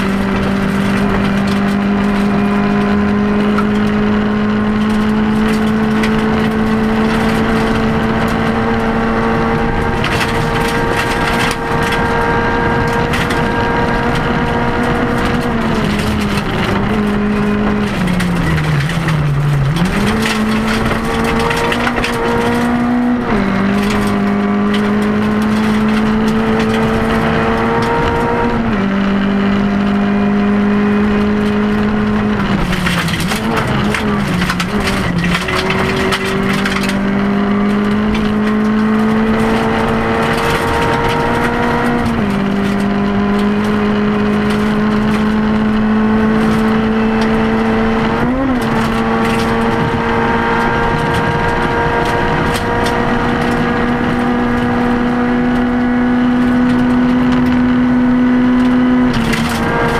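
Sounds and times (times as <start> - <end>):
gravel rattling under car: 0.0 - 59.9
rally car engine revving: 0.0 - 59.9.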